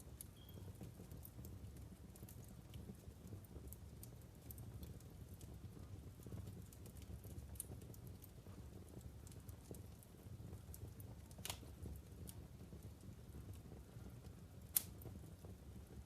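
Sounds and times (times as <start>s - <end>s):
logs crackling and popping: 0.0s - 16.0s.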